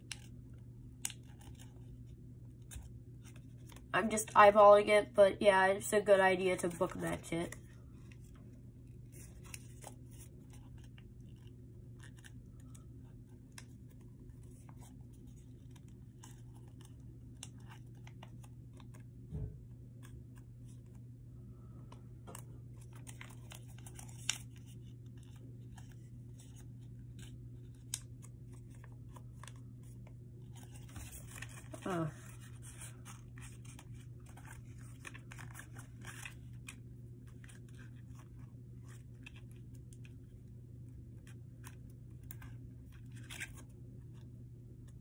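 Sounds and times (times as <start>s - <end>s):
paper crinkling and clicking: 0.0s - 4.4s, 6.5s - 19.1s, 21.9s - 45.0s.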